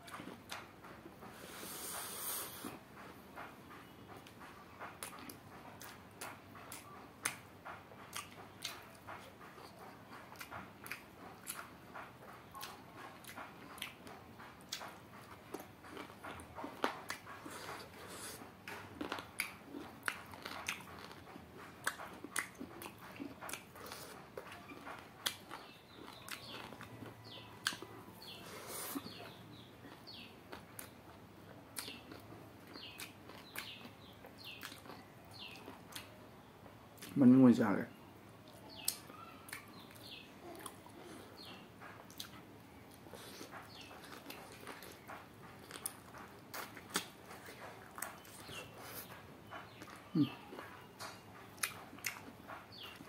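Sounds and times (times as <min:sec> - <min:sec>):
chewing and lip-smacking: 0:00.0 - 0:37.2, 0:38.2 - 0:53.0.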